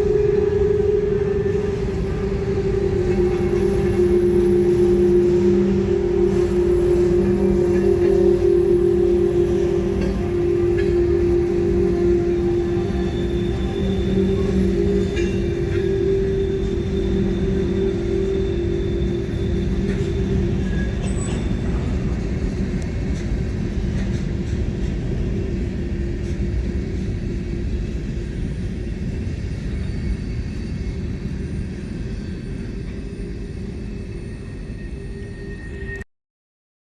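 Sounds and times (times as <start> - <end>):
freight train rumbling on rails: 0.0 - 36.0.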